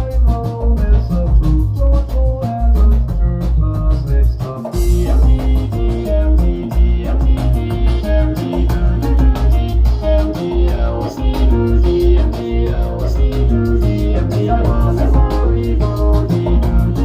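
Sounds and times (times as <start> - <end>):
rock band music: 0.0 - 17.0.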